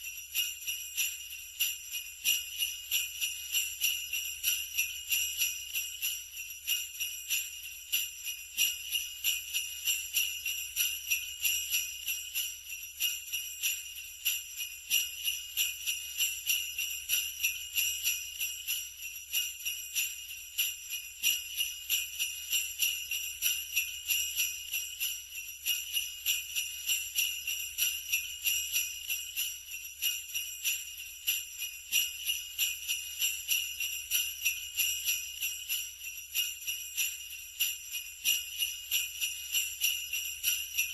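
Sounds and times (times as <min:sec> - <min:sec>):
sleigh bells jingling: 0:00.0 - 0:40.9.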